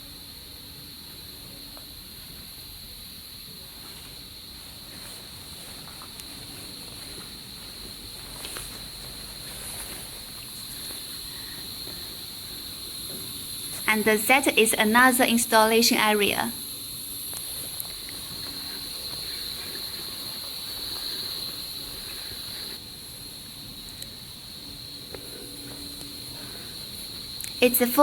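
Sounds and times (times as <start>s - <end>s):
faint hiss: 0.0s - 28.0s.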